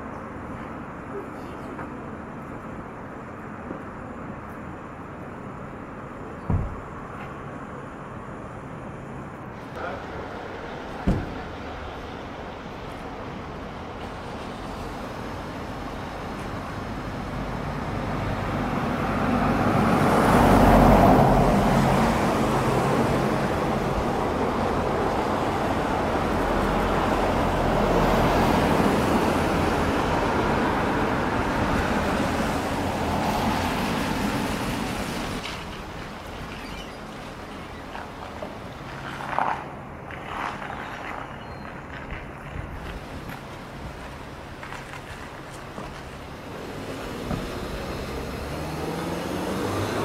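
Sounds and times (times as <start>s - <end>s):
vehicle engine and tyre noise: 0.0s - 50.0s.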